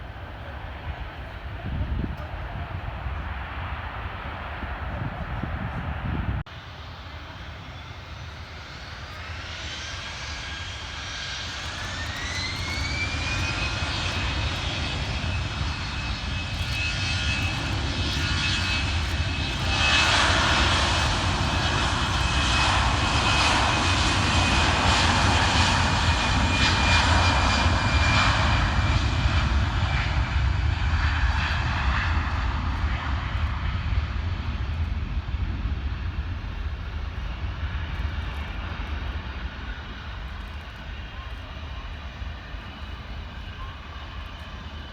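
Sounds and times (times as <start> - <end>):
jet engines whining and roaring: 0.0 - 44.9.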